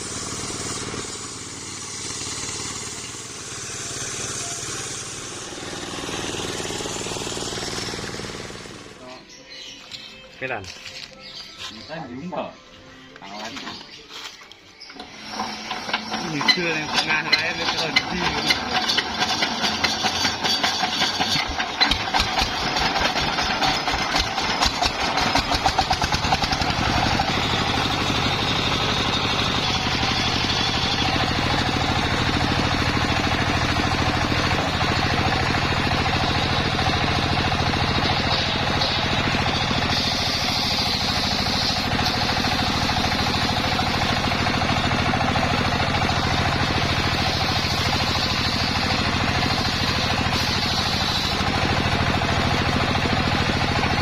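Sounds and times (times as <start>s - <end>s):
circular saw engine running: 0.0s - 9.2s, 14.9s - 54.0s.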